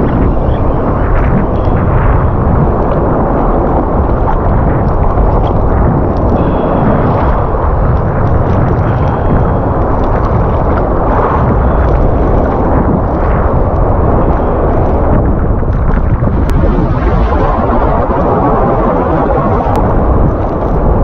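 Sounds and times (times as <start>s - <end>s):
surf waves sloshing: 0.0s - 21.0s
wind on microphone: 0.0s - 21.0s.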